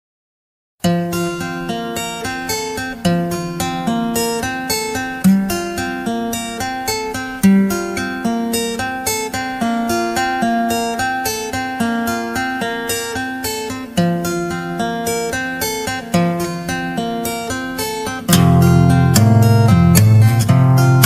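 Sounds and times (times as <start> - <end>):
acoustic guitar picked melody: 0.8 - 21.0.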